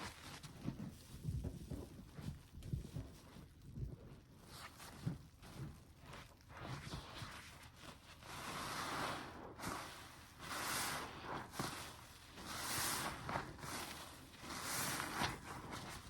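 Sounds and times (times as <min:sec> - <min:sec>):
sponge squishing foam: 0:00.0 - 0:16.0.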